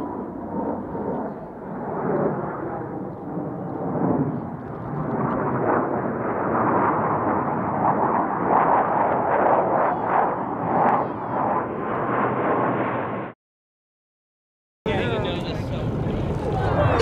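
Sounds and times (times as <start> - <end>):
jet engines rushing: 0.0 - 13.4, 14.9 - 17.0.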